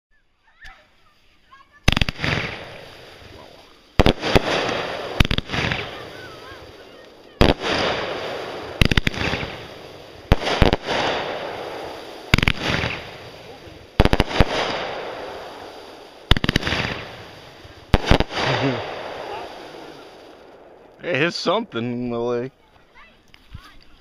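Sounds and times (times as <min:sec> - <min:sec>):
fireworks crackle: 0:00.2 - 0:24.0
fireworks bangs: 0:00.7 - 0:22.2.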